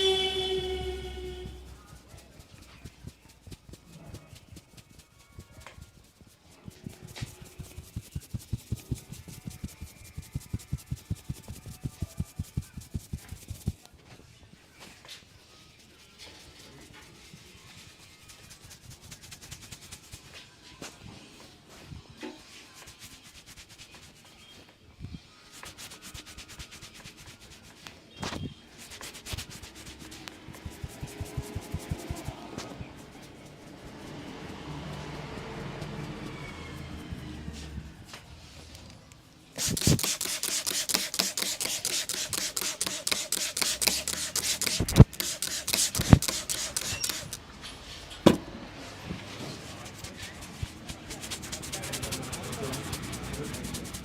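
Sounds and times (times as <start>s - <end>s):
hands rubbing hair and scalp: 0.7s - 13.9s, 15.8s - 20.4s, 22.5s - 24.6s, 25.5s - 28.0s, 28.7s - 37.8s, 39.6s - 47.4s, 49.6s - 54.0s.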